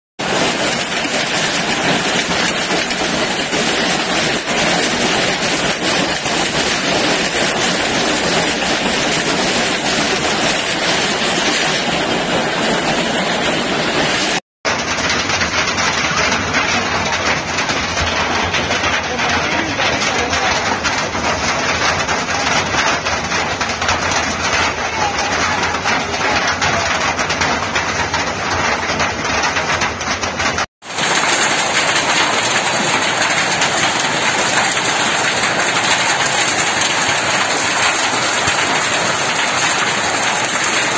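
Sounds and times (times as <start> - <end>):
hail and rain clattering: 0.2 - 40.9.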